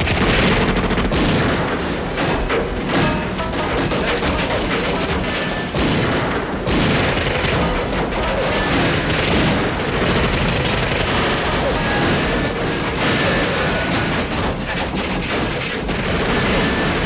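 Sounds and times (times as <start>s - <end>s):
booms: 0.0s - 17.0s
dramatic music: 0.0s - 17.0s
rapid gunfire volleys: 0.0s - 17.0s.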